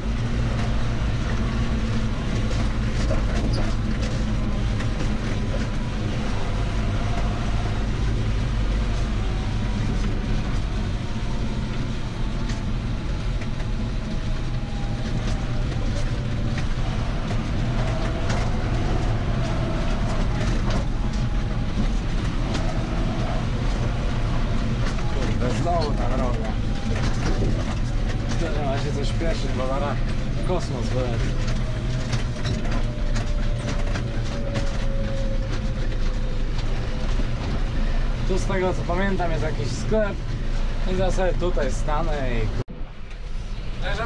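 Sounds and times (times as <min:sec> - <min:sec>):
cab rattles and knocks: 0:00.0 - 0:42.6
tractor engine drone: 0:00.0 - 0:44.0.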